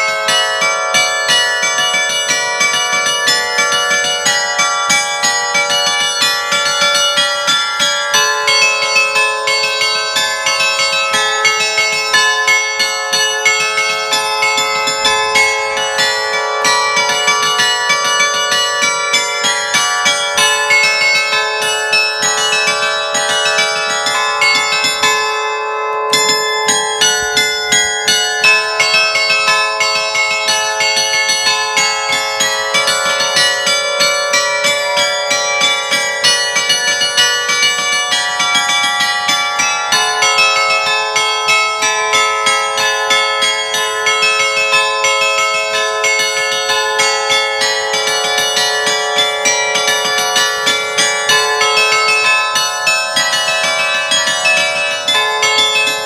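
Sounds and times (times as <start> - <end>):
bronze bells struck rapidly: 0.0 - 56.0.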